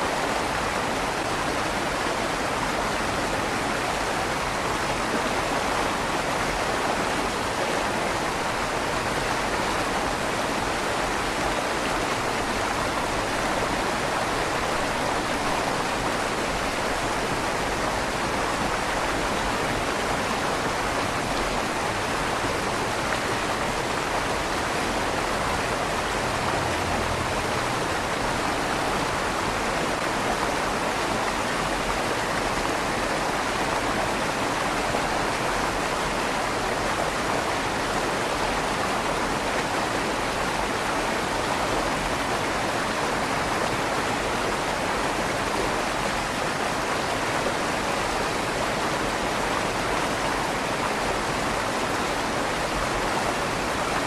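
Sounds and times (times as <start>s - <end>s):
river water rushing in tunnel: 0.0s - 54.0s.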